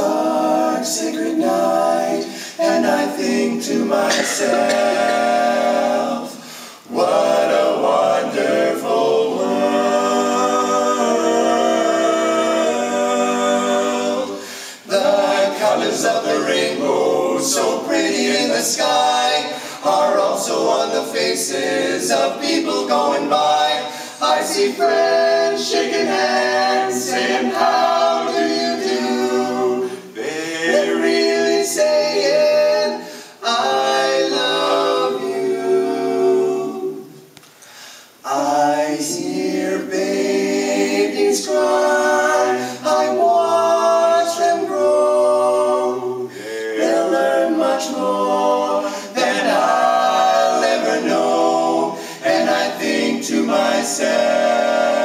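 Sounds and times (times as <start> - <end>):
male vocal quartet singing: 0.0 - 37.2, 38.2 - 55.0.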